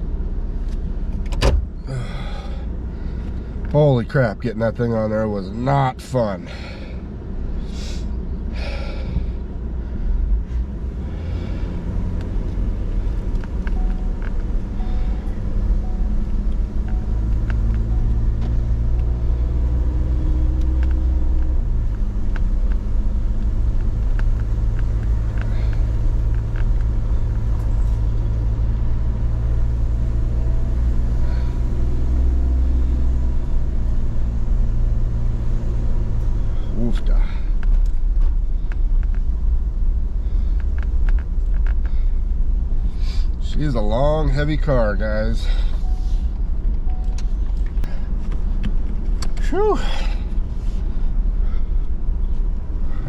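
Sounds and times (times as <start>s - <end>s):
engine and road rumble: 0.0s - 53.0s.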